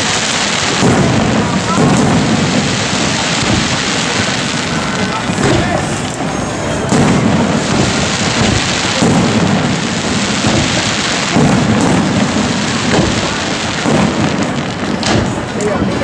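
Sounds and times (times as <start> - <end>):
firework shells booming: 0.0 - 16.0.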